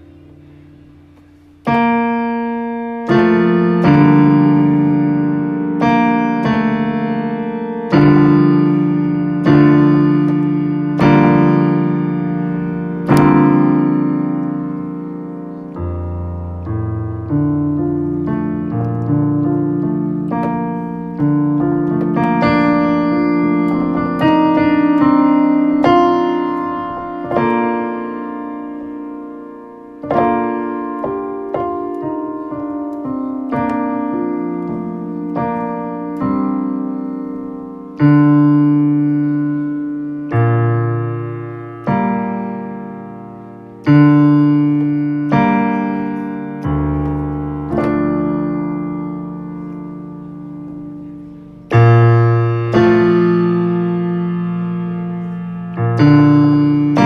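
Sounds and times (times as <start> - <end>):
slow piano chords: 0.0 - 57.0.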